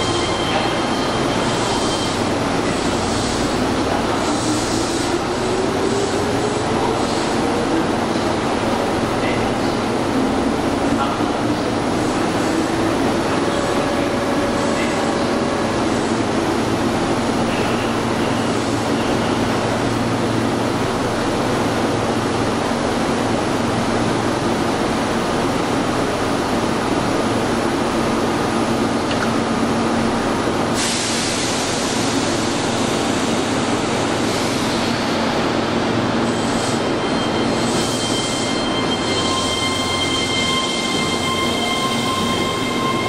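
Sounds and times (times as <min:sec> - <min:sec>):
train humming: 0:00.0 - 0:43.0.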